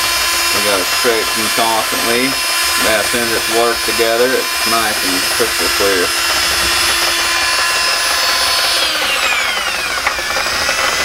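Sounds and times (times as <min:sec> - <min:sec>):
cordless drill motor whine: 0:00.0 - 0:11.0.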